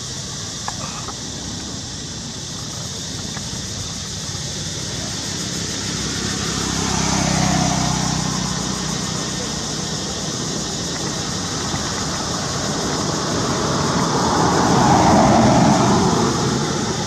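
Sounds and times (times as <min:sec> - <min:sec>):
vehicle passing on road: 0:00.0 - 0:17.0.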